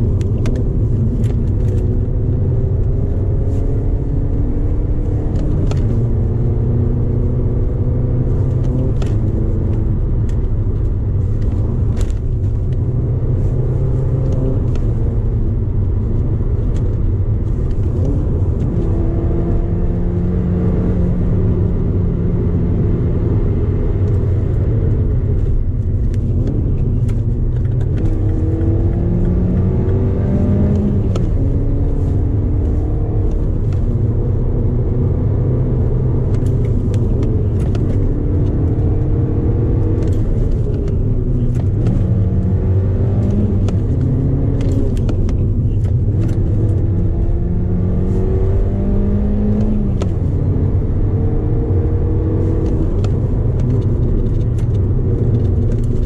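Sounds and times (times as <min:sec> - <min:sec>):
car engine revving: 0:00.0 - 0:56.0
road rumble: 0:00.0 - 0:56.0.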